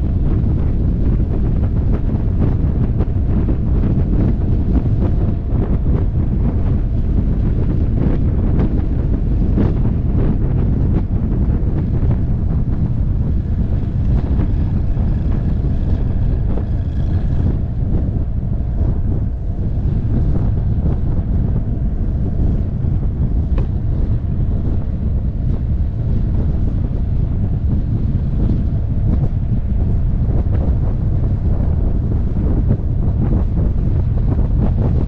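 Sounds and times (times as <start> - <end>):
motorcycle engine running: 0.0 - 35.0
wind buffeting microphone: 0.0 - 35.0.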